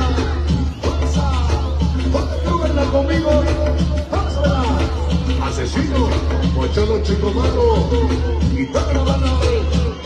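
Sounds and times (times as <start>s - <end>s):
dance music with heavy bass: 0.0s - 10.0s.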